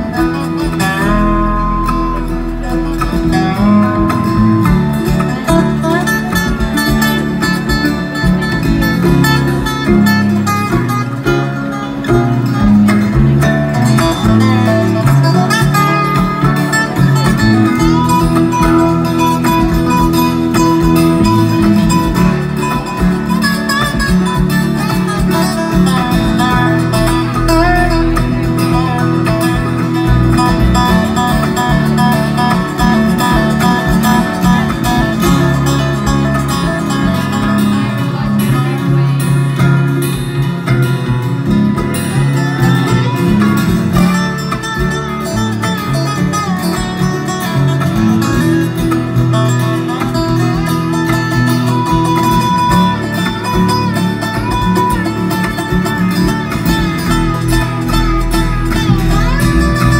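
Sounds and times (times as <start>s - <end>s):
bass: 0.0s - 59.9s
slide dobro notes: 0.0s - 59.9s
strummed guitar: 0.0s - 59.9s.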